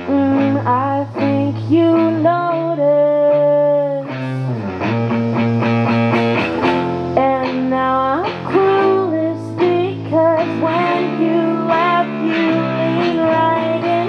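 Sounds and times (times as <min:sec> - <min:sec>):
woman singing: 0:00.0 - 0:04.5, 0:07.2 - 0:14.0
strummed guitars: 0:00.0 - 0:14.0.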